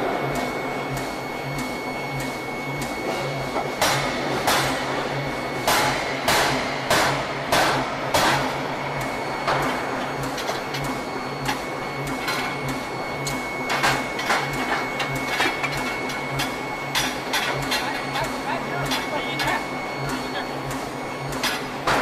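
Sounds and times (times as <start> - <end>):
machine rhythmic running pulse: 0.0 - 22.0
steady high whine: 0.0 - 22.0.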